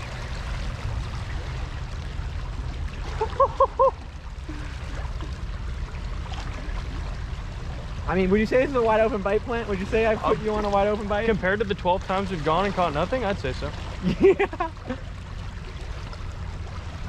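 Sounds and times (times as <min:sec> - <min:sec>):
fast-moving water at shoreline: 0:00.0 - 0:17.0
wind: 0:00.0 - 0:17.0.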